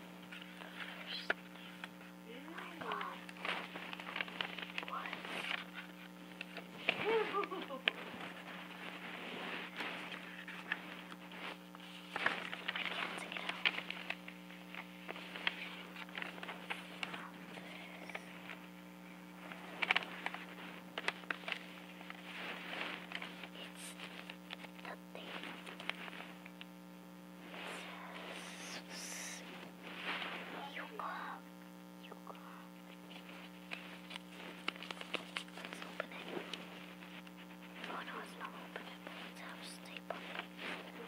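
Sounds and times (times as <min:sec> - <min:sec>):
electrical hum: 0:00.0 - 0:41.0
paper rustling: 0:02.7 - 0:26.6, 0:27.4 - 0:30.7, 0:33.0 - 0:41.0.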